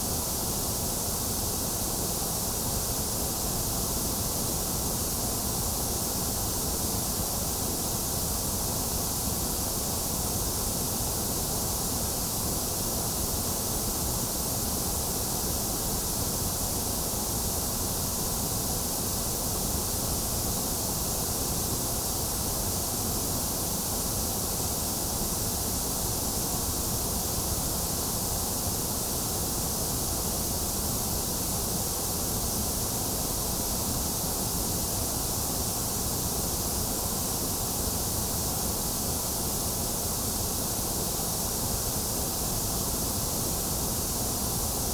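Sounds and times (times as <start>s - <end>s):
steady white noise hiss: 0.0s - 44.9s.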